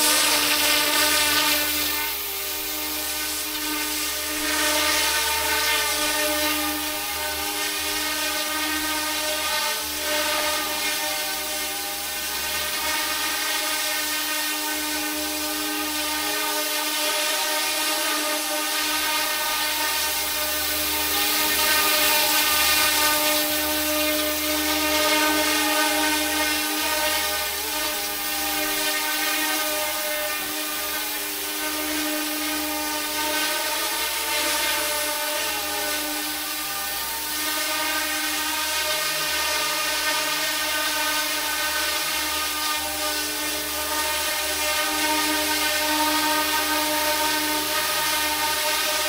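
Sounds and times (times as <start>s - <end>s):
model helicopter motor whine: 0.0s - 49.0s.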